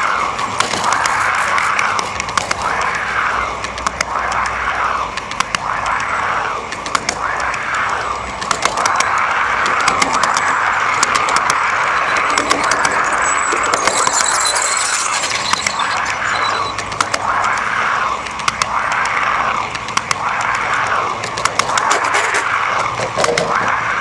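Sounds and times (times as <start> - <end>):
wheels clicking over rail joints: 0.0 - 23.8.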